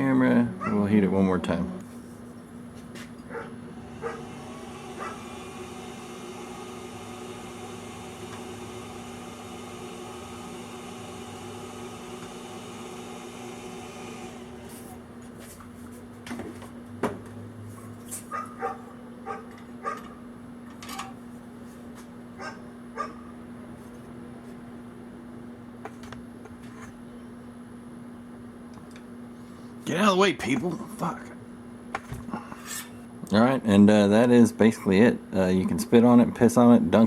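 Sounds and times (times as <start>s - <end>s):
induction heater whining: 0.0s - 37.0s
steady background hum: 0.0s - 37.0s.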